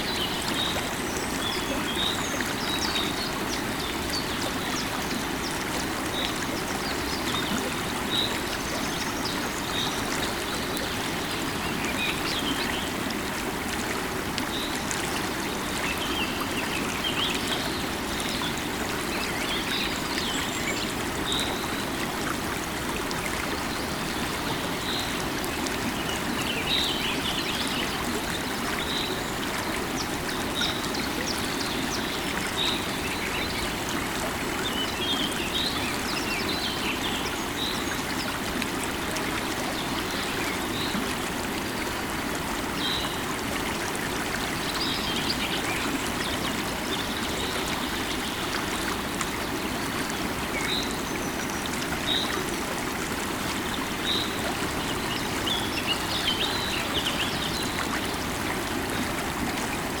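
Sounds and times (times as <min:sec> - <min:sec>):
river flowing: 0:00.0 - 1:00.0.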